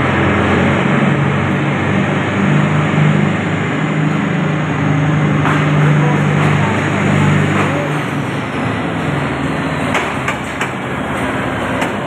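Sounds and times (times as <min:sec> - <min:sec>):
continuous noisy wash: 0:00.0 - 0:12.0
locomotive engine drone: 0:00.0 - 0:12.0.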